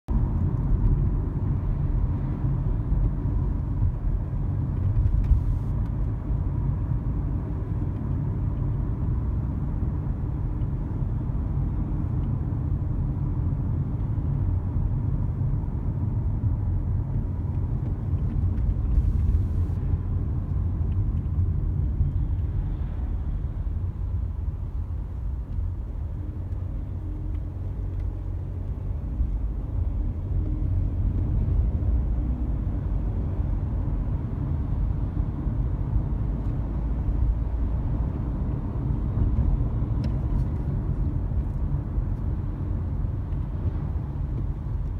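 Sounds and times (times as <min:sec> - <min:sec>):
road and engine rumble in car: 0:00.1 - 0:44.9.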